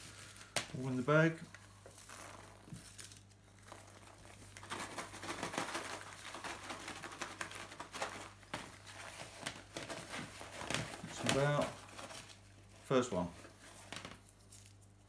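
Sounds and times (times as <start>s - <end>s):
paper slips rustling in pouch: 0.0s - 14.8s.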